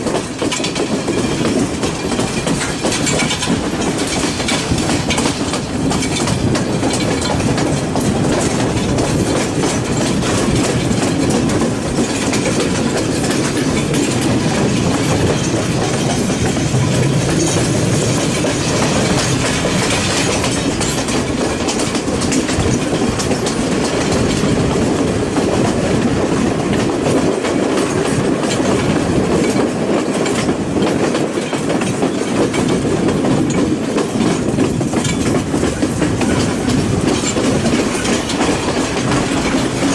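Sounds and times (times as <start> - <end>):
rail joints clacking: 0.0 - 39.9
train wheels rumbling on rail: 0.0 - 39.9.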